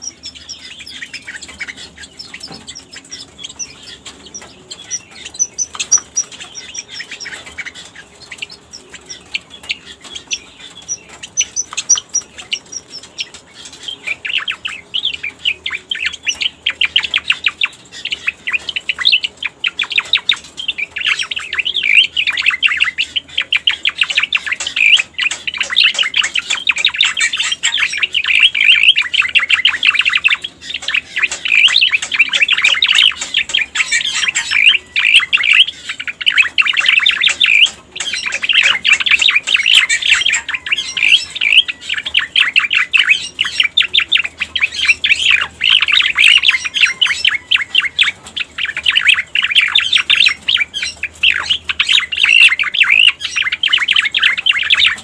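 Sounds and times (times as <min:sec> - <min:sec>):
bird chattering and twittering: 0:00.0 - 0:55.0.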